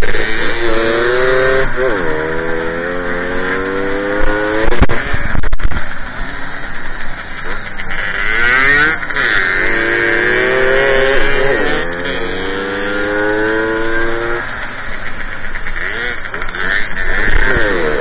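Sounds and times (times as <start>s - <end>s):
moped two-stroke engine revving: 0.0s - 18.0s.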